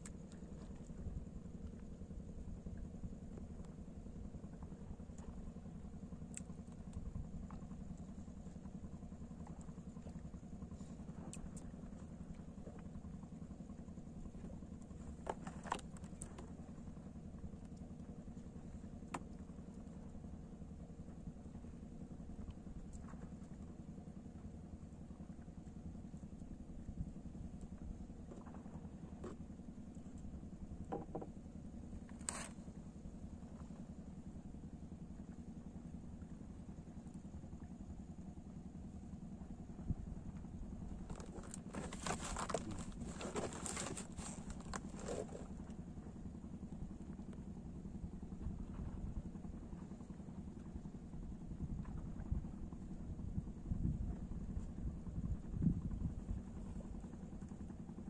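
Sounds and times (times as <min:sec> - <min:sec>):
low motor hum: 0:00.0 - 0:58.0.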